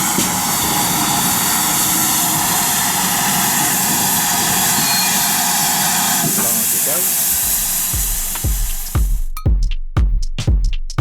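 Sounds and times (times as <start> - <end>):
steam locomotive hissing: 0.0 - 9.3.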